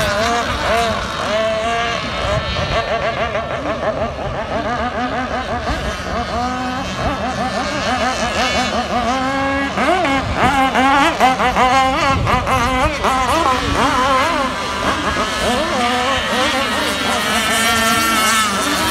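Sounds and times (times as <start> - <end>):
model boat engines buzzing: 0.0 - 18.9.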